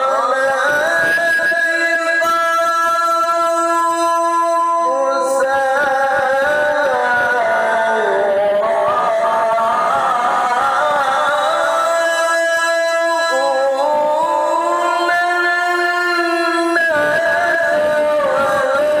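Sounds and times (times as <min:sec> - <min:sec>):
man reciting melodically into microphone: 0:00.0 - 0:19.0.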